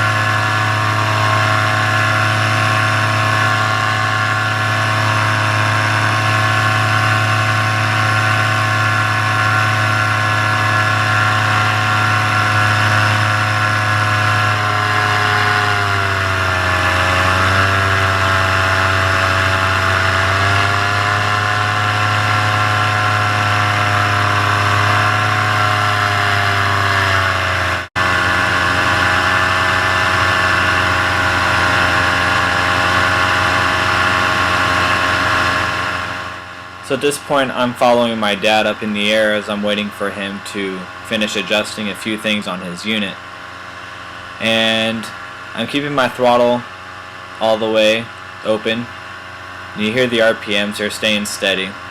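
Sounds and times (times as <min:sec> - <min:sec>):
paramotor engine and propeller: 0:00.0 - 0:51.9.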